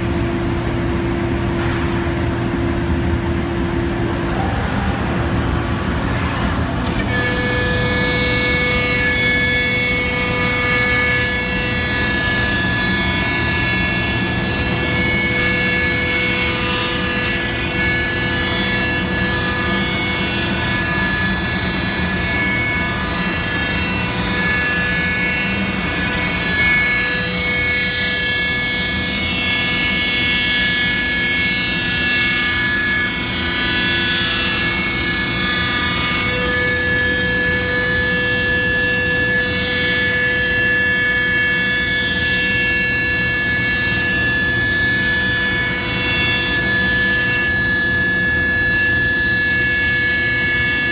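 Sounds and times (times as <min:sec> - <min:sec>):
cnc router whine: 0:00.0 - 0:50.9.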